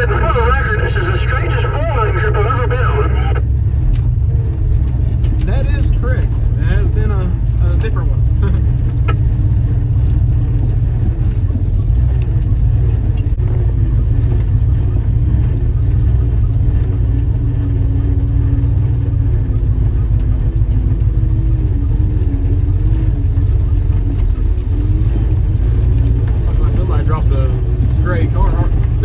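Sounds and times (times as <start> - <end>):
car engine running while driving: 0.0 - 29.0.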